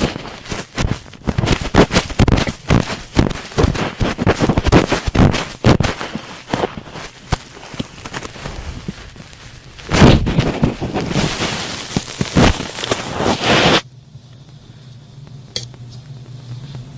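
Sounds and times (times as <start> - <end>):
cotton swabs scratching microphone: 0.0 - 13.8.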